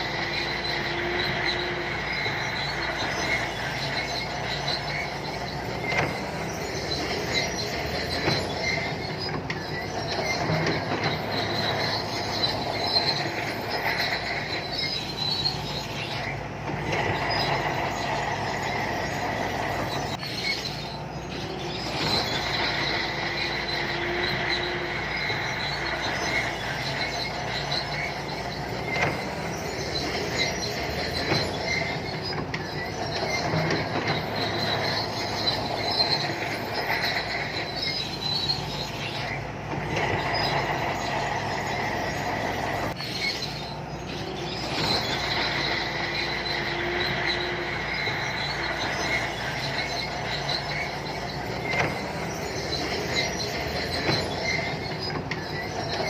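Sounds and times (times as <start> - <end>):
bulldozer engine running: 0.0 - 56.0
steel tracks squealing and clanking: 0.0 - 56.0.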